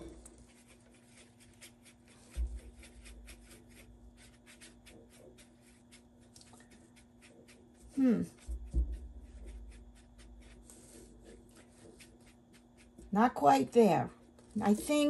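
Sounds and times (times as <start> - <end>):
paintbrush strokes on palette: 0.0 - 13.2.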